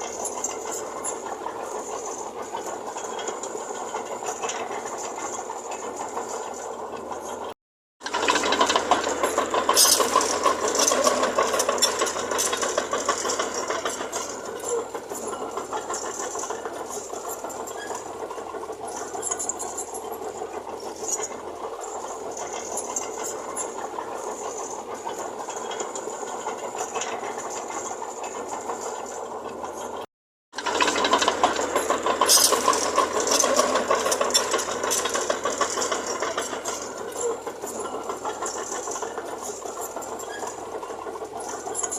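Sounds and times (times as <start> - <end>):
bulldozer diesel engine clattering: 0.0 - 30.0, 30.6 - 41.9.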